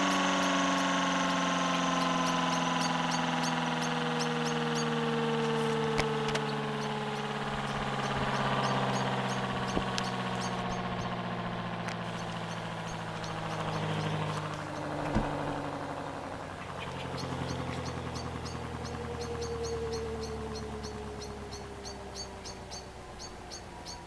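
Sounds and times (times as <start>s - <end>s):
bird chirping: 0.0s - 24.0s
low hum: 0.0s - 24.0s
mechanical siren chord: 0.0s - 24.0s.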